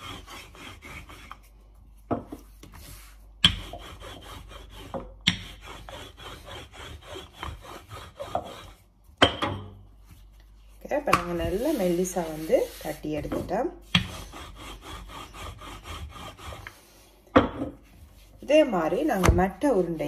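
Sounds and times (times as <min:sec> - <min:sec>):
rolling pin rubbing on dough: 0:00.0 - 0:09.2, 0:09.9 - 0:17.2, 0:17.8 - 0:20.0.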